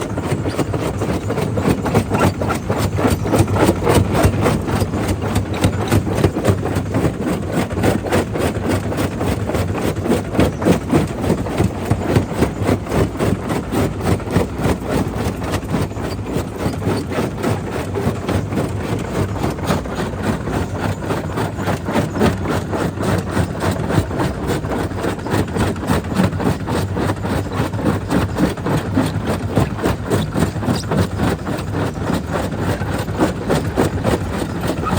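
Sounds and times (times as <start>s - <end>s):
jaw crusher machine rumble: 0.0s - 34.9s.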